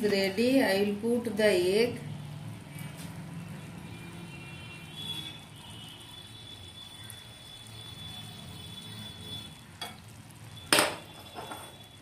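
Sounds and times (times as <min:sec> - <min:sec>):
curry simmering in a frying pan: 0:00.1 - 0:12.0.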